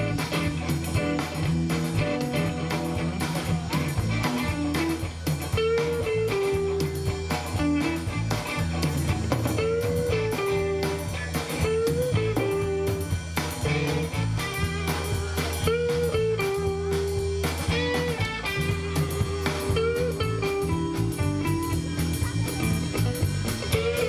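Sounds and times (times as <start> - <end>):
bass guitar: 0.0 - 24.0
drum kit: 0.0 - 24.0
electric guitar bending notes: 0.0 - 24.0.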